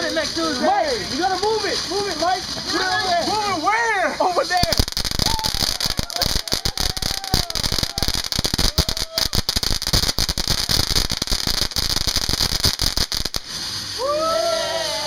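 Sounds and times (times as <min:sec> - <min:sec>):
firework crackling pops: 0:00.0 - 0:15.0
firework hiss: 0:00.0 - 0:15.0.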